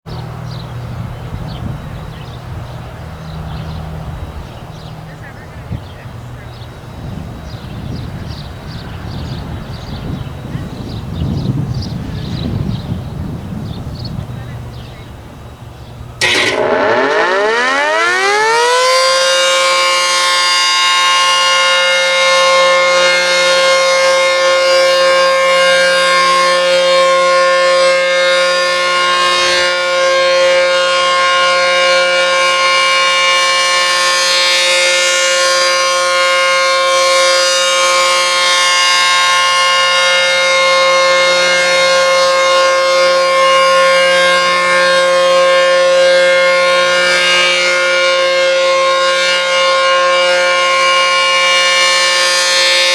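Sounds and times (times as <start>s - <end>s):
warning siren steady tone: 0.1s - 14.5s, 16.1s - 52.9s.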